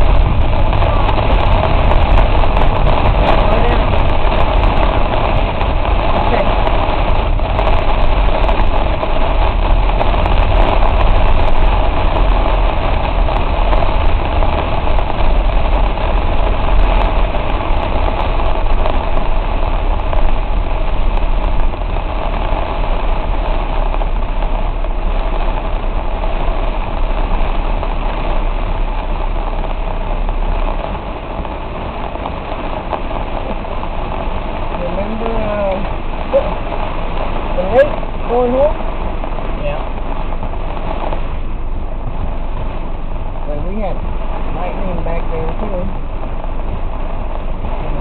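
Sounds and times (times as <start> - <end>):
heavy rain on a car: 0.0 - 48.0
tyres on a wet road: 0.0 - 48.0.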